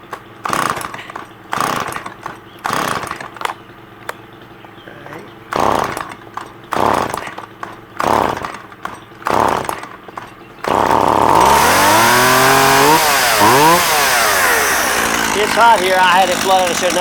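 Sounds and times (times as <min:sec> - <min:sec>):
chainsaw pull-starting and revving: 0:00.1 - 0:03.5, 0:05.5 - 0:17.0.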